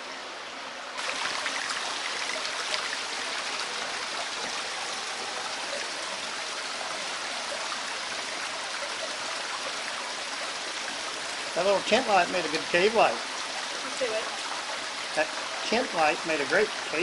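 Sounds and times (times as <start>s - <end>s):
water rushing in a cave: 0.0s - 17.0s.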